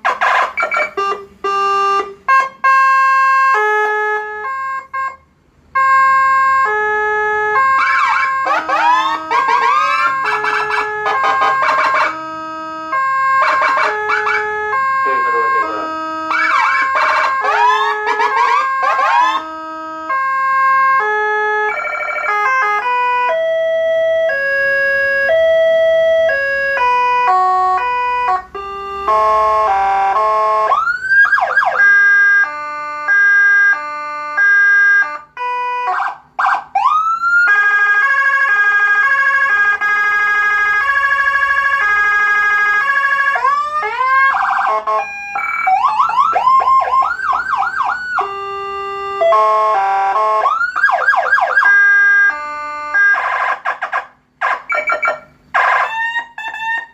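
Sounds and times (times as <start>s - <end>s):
electronic ambulance siren: 0.0s - 56.9s.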